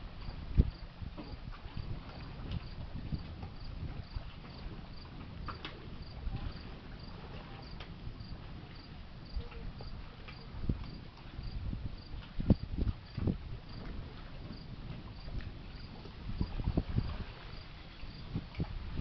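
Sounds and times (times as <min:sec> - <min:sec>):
wind rumble on microphone: 0:00.0 - 0:19.0
crickets chirping: 0:00.2 - 0:01.4, 0:02.2 - 0:13.8, 0:14.5 - 0:18.3.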